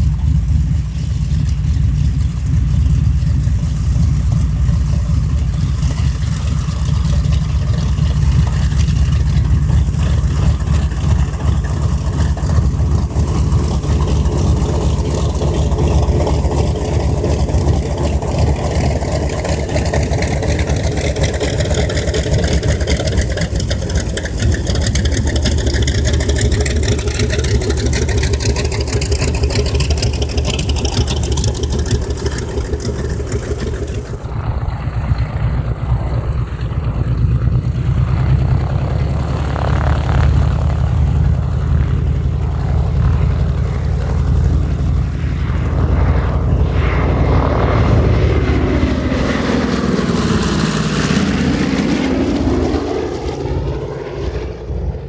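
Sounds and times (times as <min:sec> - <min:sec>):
radial aircraft engine droning: 0:00.0 - 0:55.0.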